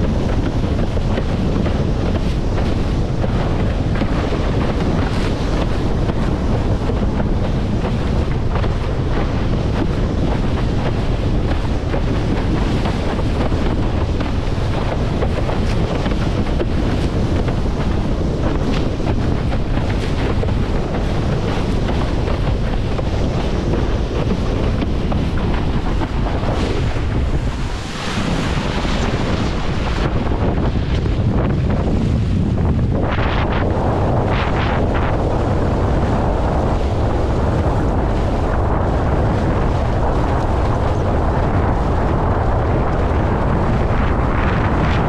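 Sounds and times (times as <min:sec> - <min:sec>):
water rushing and splashing: 0:00.0 - 0:45.0
wind buffeting microphone: 0:00.0 - 0:45.0.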